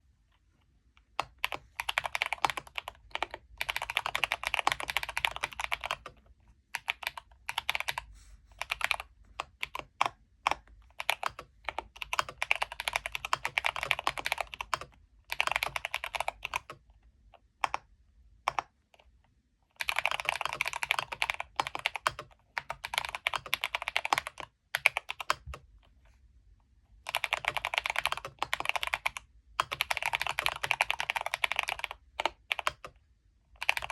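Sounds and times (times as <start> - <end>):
typing on mechanical keyboard: 1.1 - 16.8, 17.6 - 17.9, 18.5 - 18.8, 19.8 - 25.7, 27.0 - 33.0, 33.6 - 33.9.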